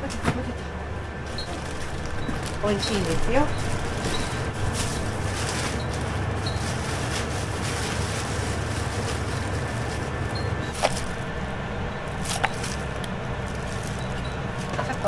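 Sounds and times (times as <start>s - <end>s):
kitchen equipment humming: 0.0s - 15.0s
plastic bag rustling: 1.2s - 15.0s.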